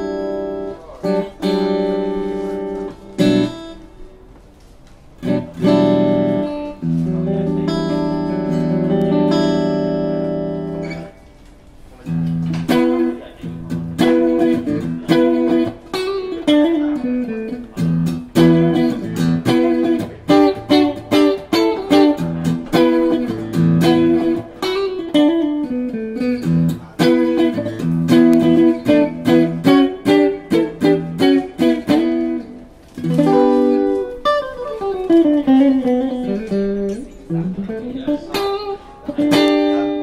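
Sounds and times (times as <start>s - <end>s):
electric guitar fingerpicked: 0.0s - 40.0s.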